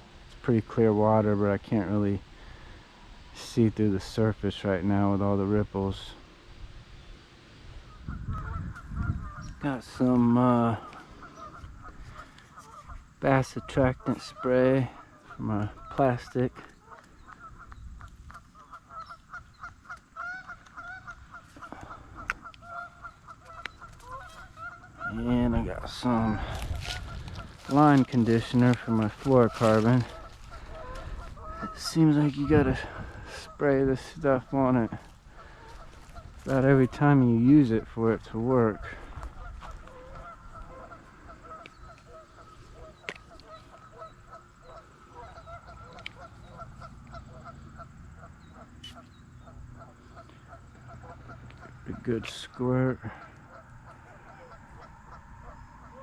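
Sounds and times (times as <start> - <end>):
flock of birds honking: 0.0 - 56.0
low wind rumble: 0.0 - 56.0.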